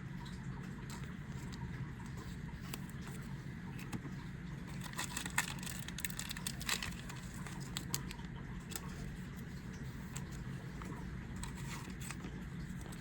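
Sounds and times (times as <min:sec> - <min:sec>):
steady low hum: 0:00.0 - 0:13.0
card packs crinkling and clicking: 0:00.8 - 0:09.4, 0:10.1 - 0:13.0.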